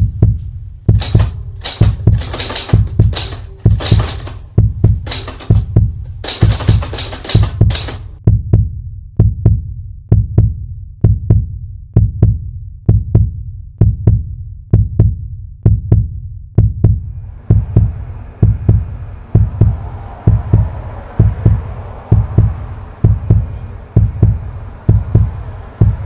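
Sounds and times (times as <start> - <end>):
heartbeat thumps: 0.0 - 26.0.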